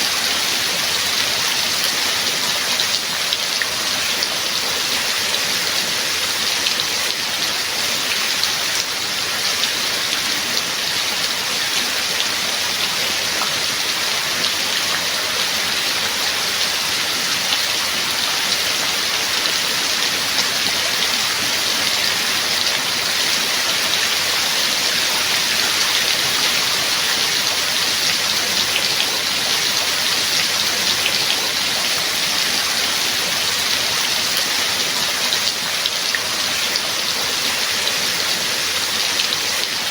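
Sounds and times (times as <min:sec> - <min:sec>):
steady rain with patter of drops: 0:00.0 - 0:39.9.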